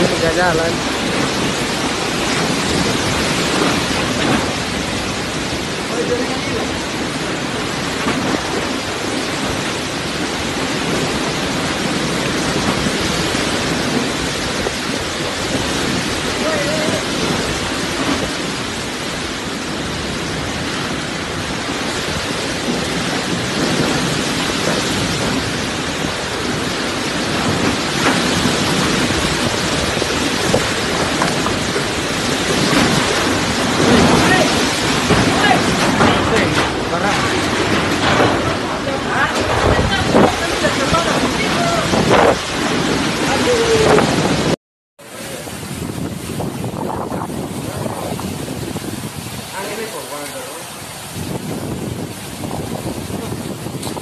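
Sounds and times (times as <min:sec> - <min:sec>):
heavy rain pouring: 0:00.0 - 0:54.0
strong wind: 0:00.0 - 0:54.0.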